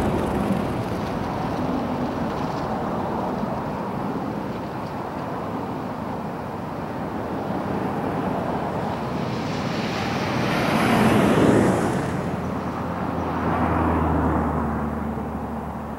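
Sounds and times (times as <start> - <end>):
jet engines rumbling: 0.0 - 13.5.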